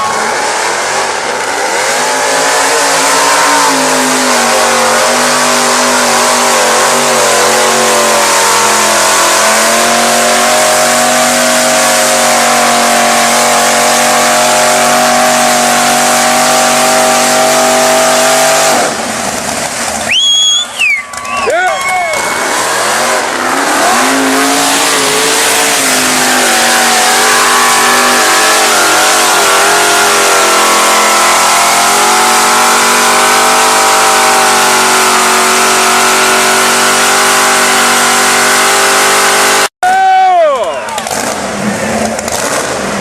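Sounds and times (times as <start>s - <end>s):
truck engine at full throttle: 0.0s - 39.8s, 40.6s - 43.0s.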